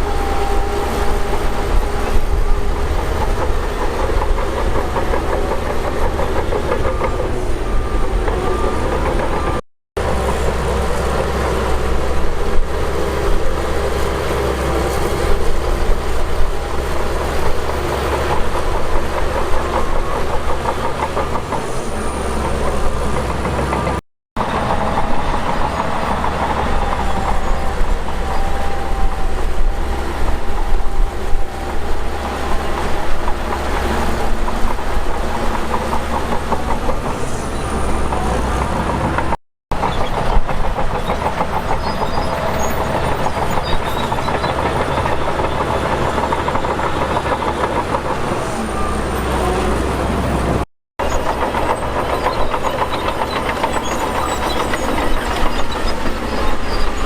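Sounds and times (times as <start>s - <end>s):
heavy diesel machinery engine drone: 0.0s - 57.0s.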